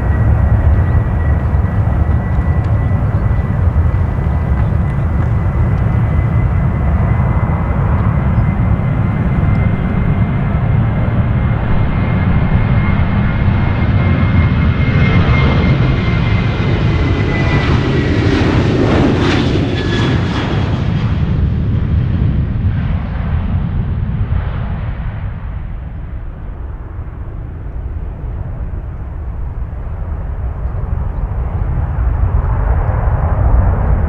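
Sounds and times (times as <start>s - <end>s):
jet engines whining and rumbling: 0.0s - 34.0s.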